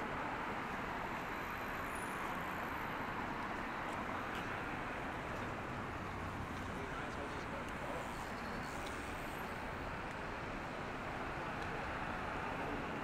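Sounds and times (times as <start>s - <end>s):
busy city street noise: 0.0s - 13.0s.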